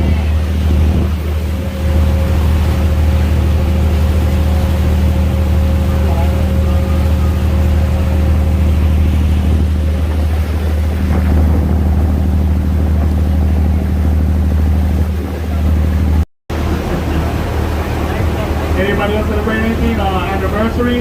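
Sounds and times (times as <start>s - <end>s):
boat engine droning: 0.0s - 21.0s
water noise: 0.0s - 21.0s
wind: 0.0s - 21.0s.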